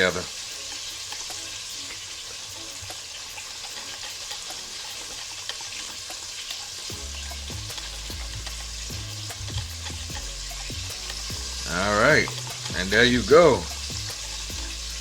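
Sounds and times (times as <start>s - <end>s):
chicken wings deep-frying in oil: 0.0s - 15.0s.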